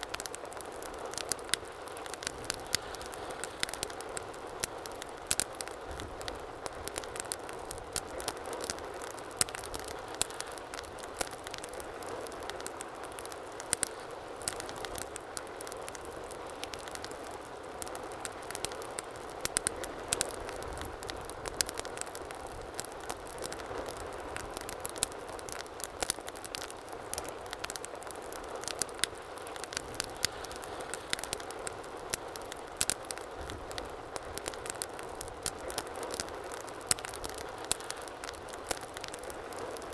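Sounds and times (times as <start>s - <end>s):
logs crackling and popping: 0.0s - 39.9s
fire flames hissing: 0.1s - 39.9s.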